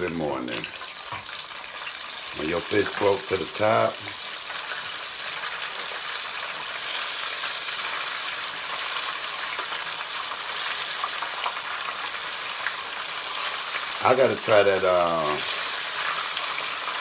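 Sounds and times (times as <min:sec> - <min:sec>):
fish deep-frying in hot oil: 0:00.0 - 0:17.0.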